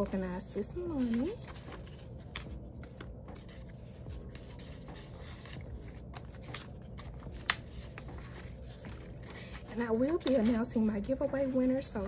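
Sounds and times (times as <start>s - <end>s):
banknotes rubbing and ticking: 0.0s - 12.0s.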